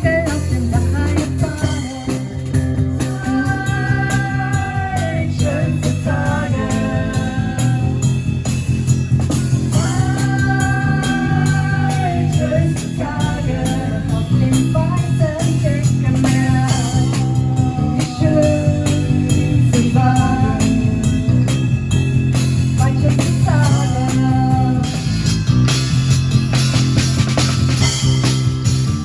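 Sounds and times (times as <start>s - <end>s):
small band playing: 0.0s - 29.0s.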